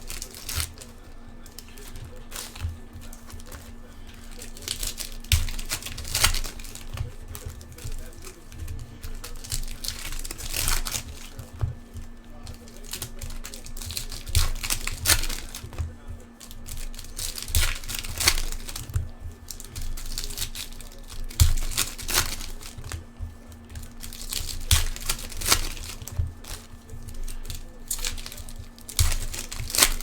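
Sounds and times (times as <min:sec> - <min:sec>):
card pack wrappers tearing and crinkling: 0:00.0 - 0:30.0.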